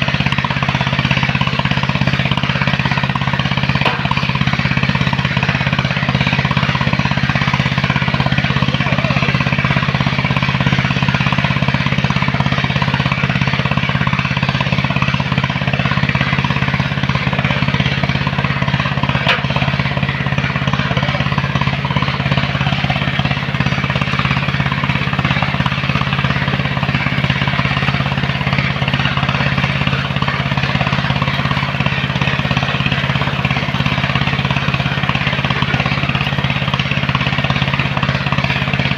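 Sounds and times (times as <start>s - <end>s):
machine engine running steadily: 0.0s - 38.9s.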